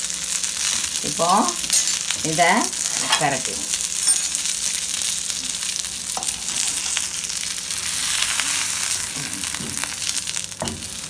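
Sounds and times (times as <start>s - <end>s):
fish sizzling in oil: 0.0s - 11.0s.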